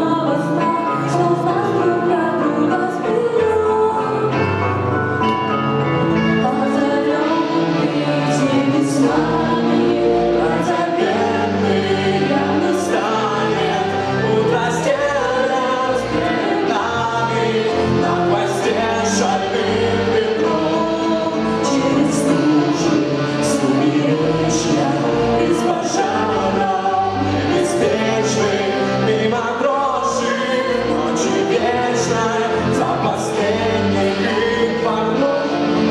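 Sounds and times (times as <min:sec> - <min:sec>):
person singing: 0:06.4 - 0:35.9.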